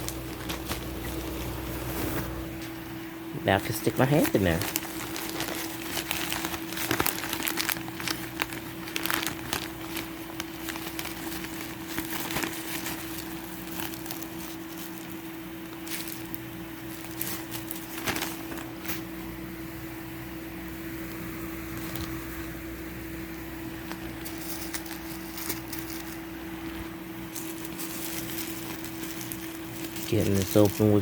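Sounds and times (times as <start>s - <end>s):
package rustling and crinkling: 0.0s - 2.4s, 3.5s - 19.2s, 21.7s - 22.3s, 23.6s - 31.0s
steady hum: 0.0s - 31.0s.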